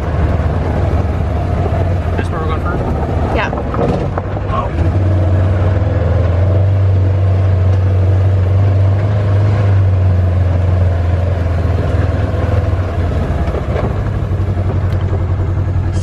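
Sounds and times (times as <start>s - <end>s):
utility vehicle engine droning: 0.0s - 16.0s.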